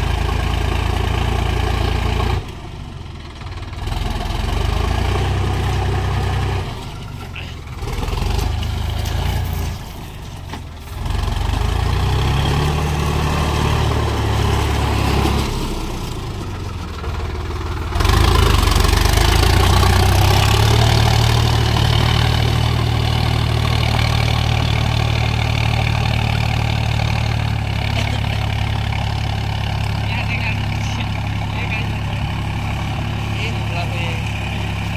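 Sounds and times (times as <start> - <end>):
tractor diesel engine revving: 0.0 - 34.9.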